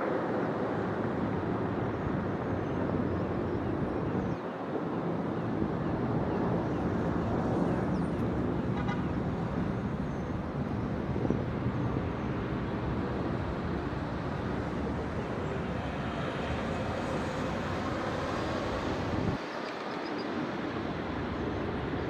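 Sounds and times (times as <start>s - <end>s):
distant city traffic hum: 0.0s - 22.0s.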